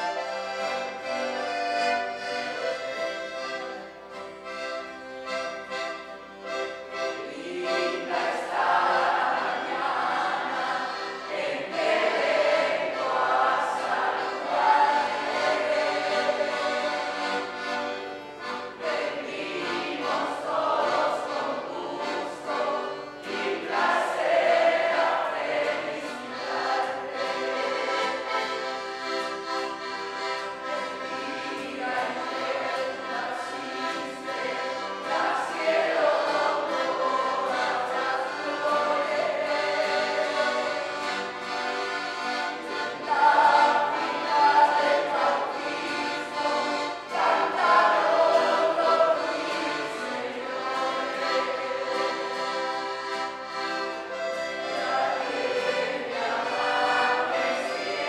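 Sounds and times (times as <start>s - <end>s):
people singing a hymn: 0.0s - 6.1s, 6.7s - 58.0s
acoustic guitar: 0.0s - 58.0s.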